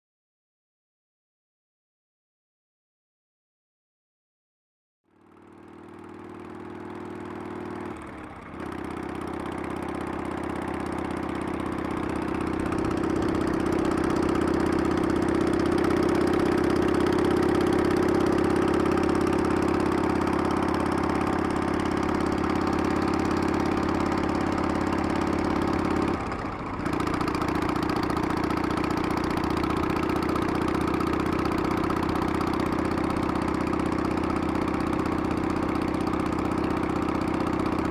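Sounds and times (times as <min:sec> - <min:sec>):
motorcycle engine running: 0:05.1 - 0:37.9.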